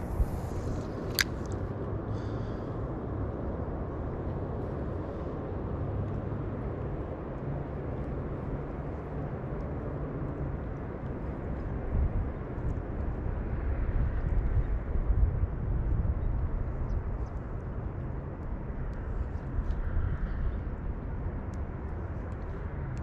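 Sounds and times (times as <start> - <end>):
low rumbling outdoor noise: 0.0 - 23.0.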